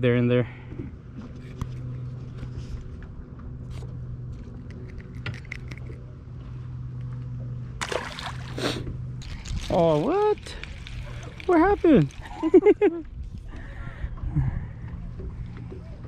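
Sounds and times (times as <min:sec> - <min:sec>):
boat motor humming: 0:00.6 - 0:16.0.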